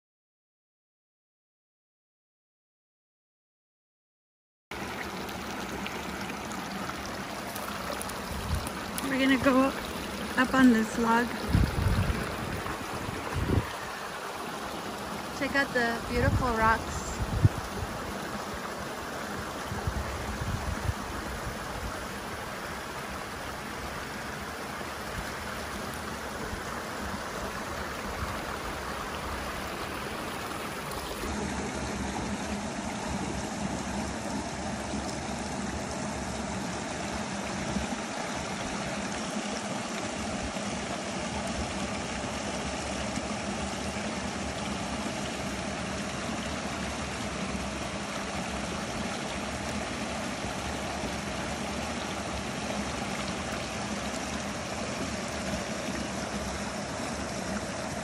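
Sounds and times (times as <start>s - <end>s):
creek flowing over stones: 4.7s - 58.0s.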